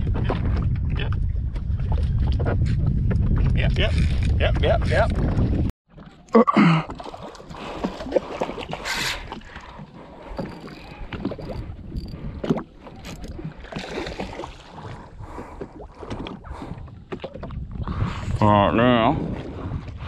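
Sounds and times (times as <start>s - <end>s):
water lapping against a hull: 0.0s - 3.2s, 3.8s - 20.0s.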